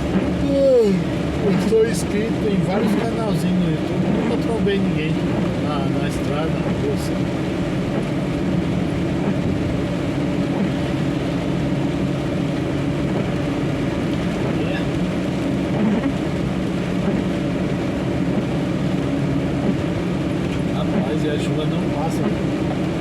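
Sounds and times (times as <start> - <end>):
diesel truck engine running: 0.0 - 23.0
tyres hissing on wet road: 0.0 - 23.0.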